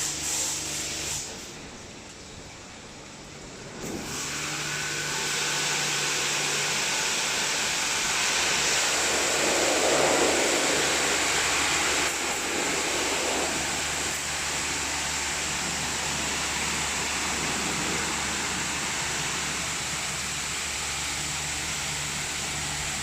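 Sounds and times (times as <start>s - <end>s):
car wash jets hissing: 0.0s - 23.0s
low motor hum: 1.4s - 23.0s.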